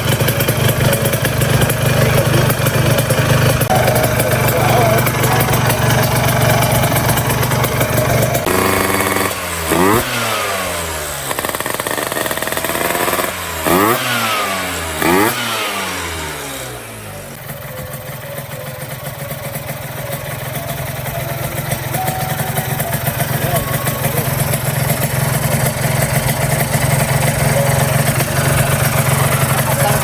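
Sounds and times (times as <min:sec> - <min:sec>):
scooter engine revving: 0:00.0 - 0:30.0.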